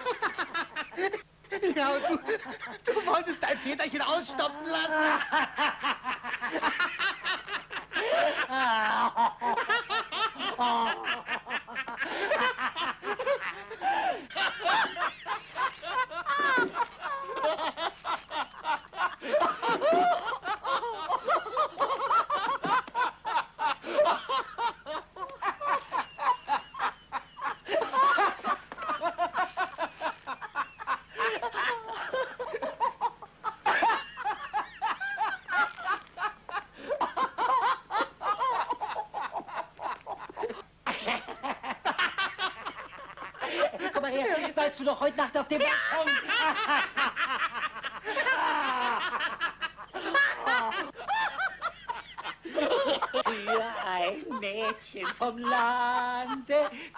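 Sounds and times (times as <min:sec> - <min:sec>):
men laughing: 0:00.0 - 0:56.9.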